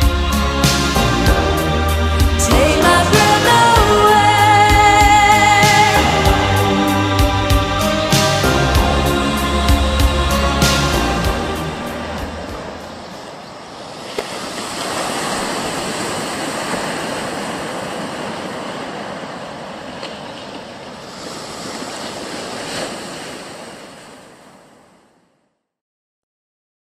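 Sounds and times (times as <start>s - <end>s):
ocean waves and surf: 0.0s - 25.5s.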